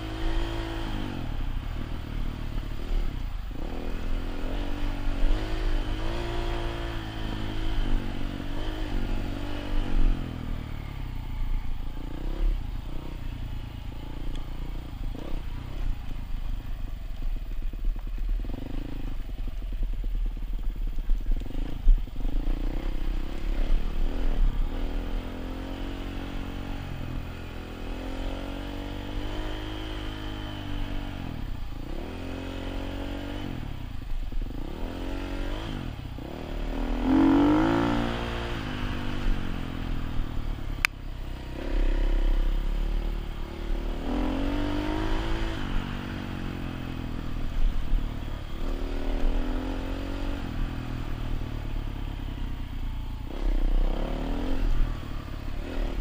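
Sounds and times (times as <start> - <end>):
dirt bike engine revving: 0.0 - 11.0, 13.9 - 15.9, 21.4 - 33.8, 34.5 - 40.4, 41.2 - 51.9, 53.2 - 56.0.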